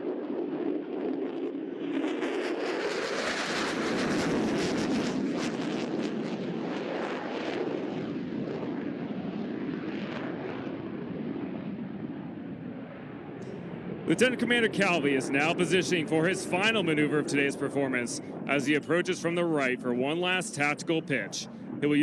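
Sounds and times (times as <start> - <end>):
fighter jet flying past: 0.0 - 22.0.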